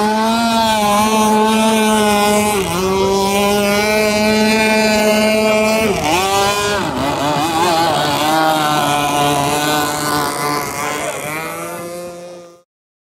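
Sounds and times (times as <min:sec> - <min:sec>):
model boat two-stroke engine: 0:00.0 - 0:12.6.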